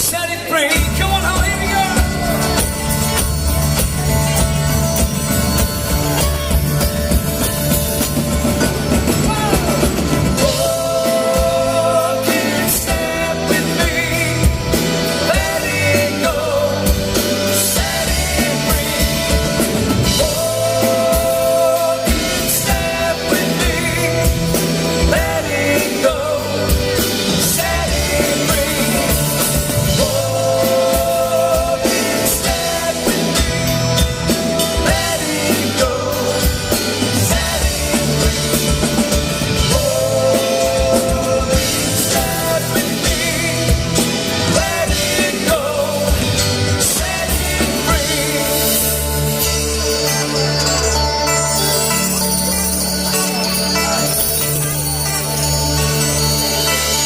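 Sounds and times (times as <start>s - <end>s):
live rock band playing: 0.0s - 57.0s
person singing: 7.6s - 57.0s.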